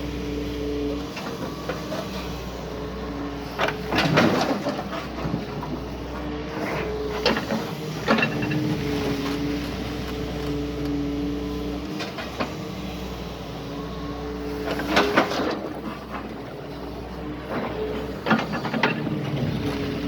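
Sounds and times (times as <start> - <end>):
excavator engine and hydraulic drone: 0.0 - 20.0.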